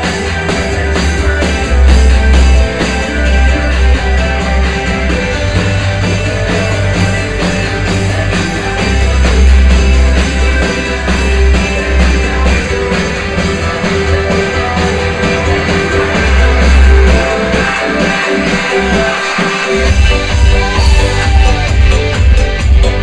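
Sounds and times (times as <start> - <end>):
loud music with heavy bass: 0.0 - 23.0.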